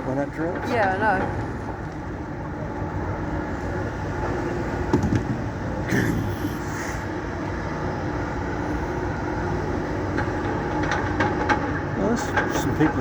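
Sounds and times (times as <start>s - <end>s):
excavator diesel engines running: 0.0s - 13.0s.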